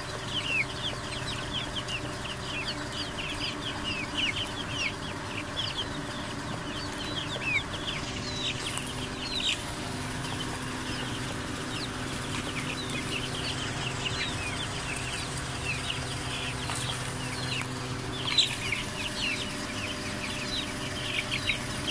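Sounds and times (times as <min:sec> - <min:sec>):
chicks peeping: 0:00.0 - 0:21.9
steady low hum: 0:00.0 - 0:21.9.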